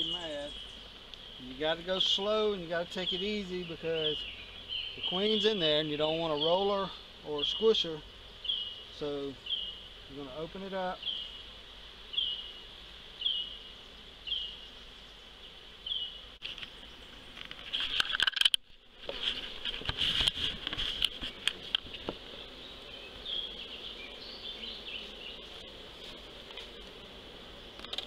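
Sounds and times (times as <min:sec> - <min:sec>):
high insect drone: 0:00.0 - 0:28.0
honeybees buzzing: 0:00.0 - 0:28.0.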